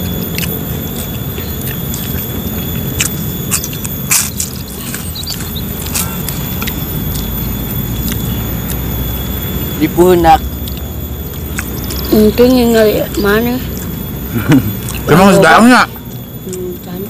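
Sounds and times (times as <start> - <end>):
chewing and lip-smacking: 0.0 - 9.4, 10.6 - 12.1, 13.0 - 17.0
steady low rumble: 0.0 - 17.0.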